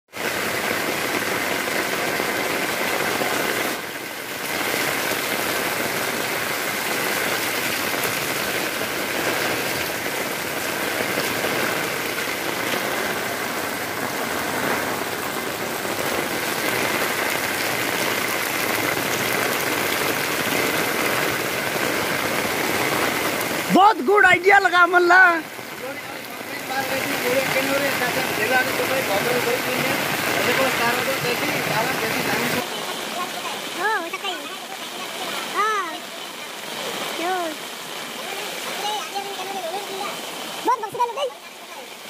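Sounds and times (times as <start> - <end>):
heavy rain falling: 0.1 - 42.0
water pouring off roof edges: 0.1 - 42.0
water running over ground: 0.1 - 42.0.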